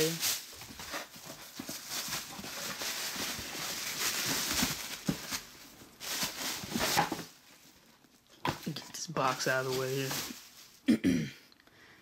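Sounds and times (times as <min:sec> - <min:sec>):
plastic and paper crinkling: 0:00.0 - 0:10.9.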